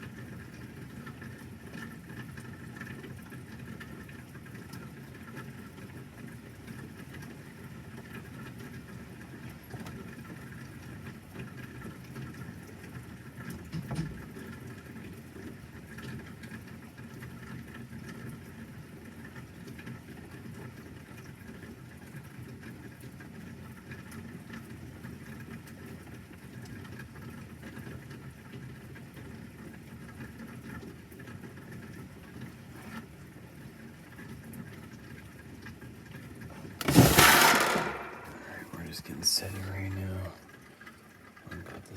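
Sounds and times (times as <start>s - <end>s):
light rain pattering: 0.0s - 41.9s.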